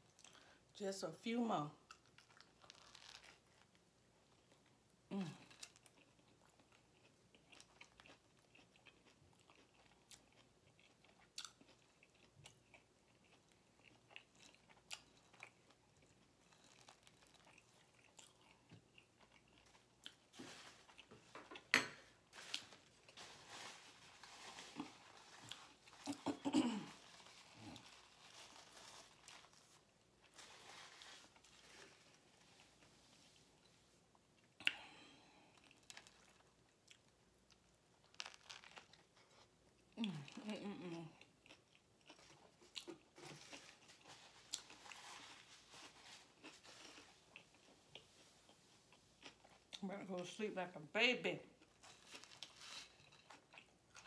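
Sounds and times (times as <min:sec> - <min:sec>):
person chewing food: 0:01.8 - 0:49.8, 0:51.6 - 0:54.0.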